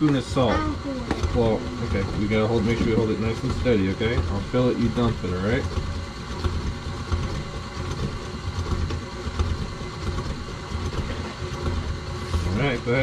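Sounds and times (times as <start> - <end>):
stand mixer humming: 0.0 - 13.0.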